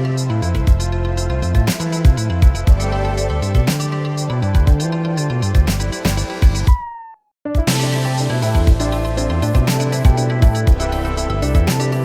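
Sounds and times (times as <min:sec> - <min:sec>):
bass line: 0:00.0 - 0:06.8, 0:07.6 - 0:12.0
drums: 0:00.0 - 0:06.8, 0:07.5 - 0:12.0.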